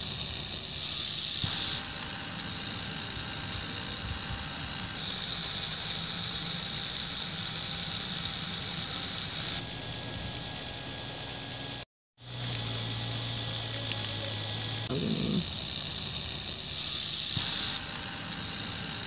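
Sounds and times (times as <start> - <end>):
toy motor whirring: 0.0 - 19.0.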